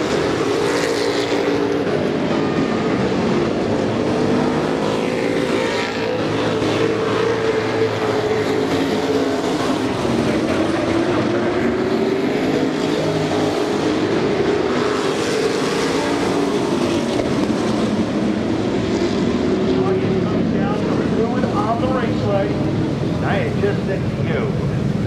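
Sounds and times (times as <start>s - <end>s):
race truck engines running: 0.0s - 25.0s.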